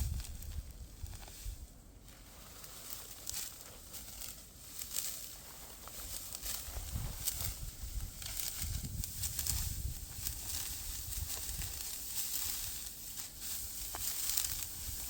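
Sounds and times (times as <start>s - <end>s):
dry rustling and crackling: 0.0s - 15.0s.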